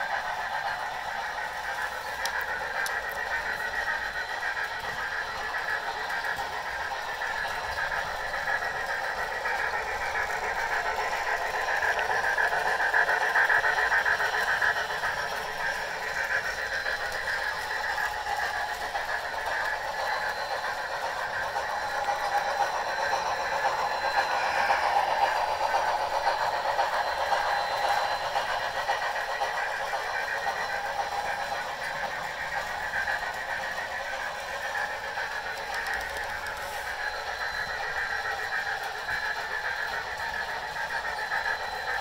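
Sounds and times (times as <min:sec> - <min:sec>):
model train wheels rattling on track: 0:00.0 - 0:42.0
steam locomotive sound from speakers: 0:00.0 - 0:42.0.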